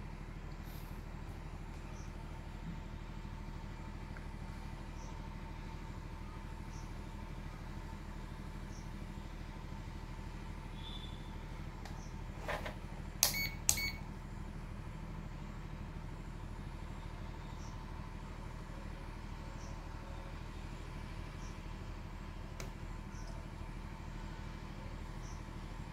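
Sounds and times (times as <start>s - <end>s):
low electrical hum: 0.0s - 25.9s.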